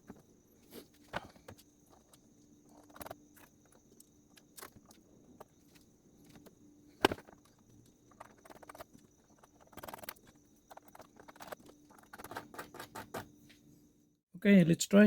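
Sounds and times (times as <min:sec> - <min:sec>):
plastic parts clicking and scraping: 0:00.8 - 0:13.3.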